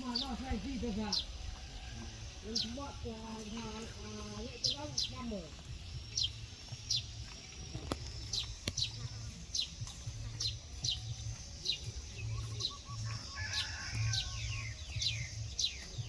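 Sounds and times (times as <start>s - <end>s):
bird calling high chirps: 0.0s - 16.0s.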